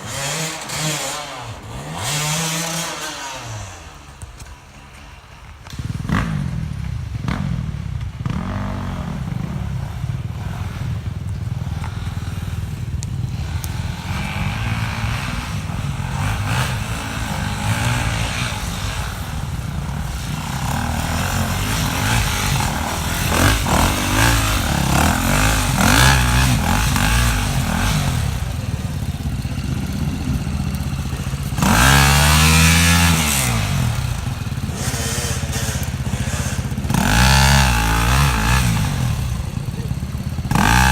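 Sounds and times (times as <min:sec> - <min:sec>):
off-road vehicle engine revving: 0:00.0 - 0:04.5, 0:05.6 - 0:40.9.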